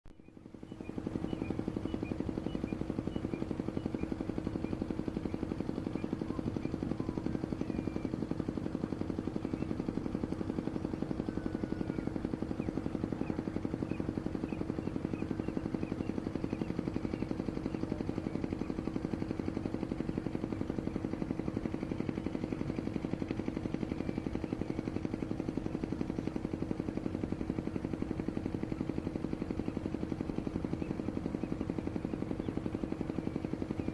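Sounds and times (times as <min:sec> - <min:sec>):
motor drone with rapid pulse: 0:00.1 - 0:33.9.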